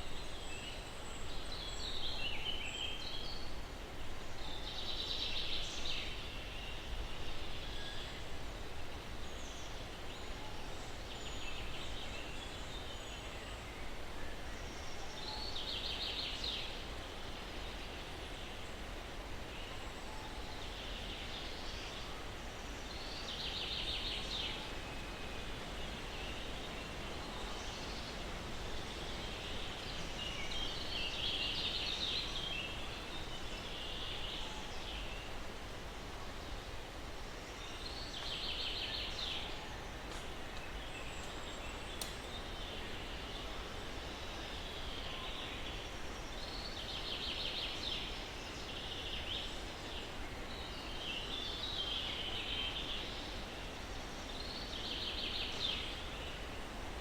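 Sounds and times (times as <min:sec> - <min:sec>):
breeze rustling pine trees: 0:00.0 - 0:57.0.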